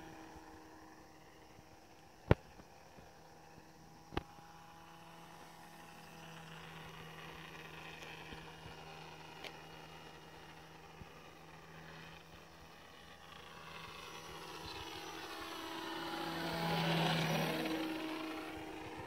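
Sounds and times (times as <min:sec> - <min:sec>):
model plane motor whine: 0:00.0 - 0:19.0.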